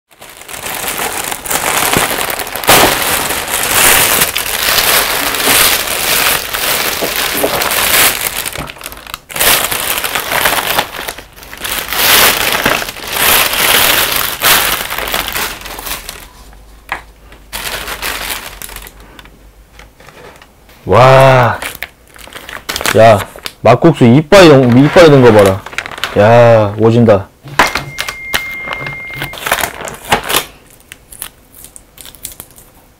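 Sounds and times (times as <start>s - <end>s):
plastic bag rustling: 0.1s - 16.9s, 17.5s - 20.9s, 21.5s - 23.6s, 24.4s - 32.5s.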